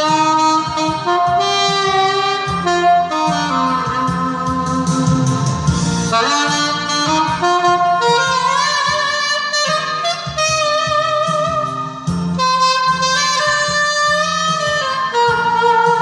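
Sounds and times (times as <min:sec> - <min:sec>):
backing track with bass line: 0:00.0 - 0:16.0
saxophone melody: 0:00.0 - 0:16.0.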